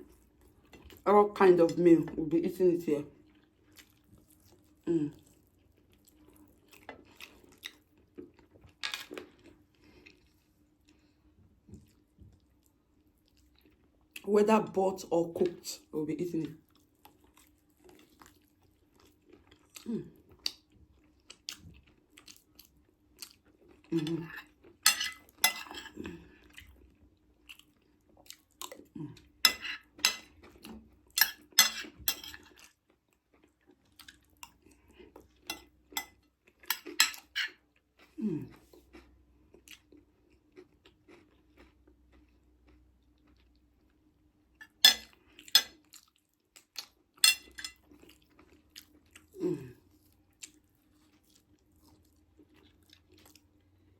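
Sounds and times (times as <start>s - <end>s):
chewing and crunching food: 0.0s - 14.3s, 15.2s - 53.9s.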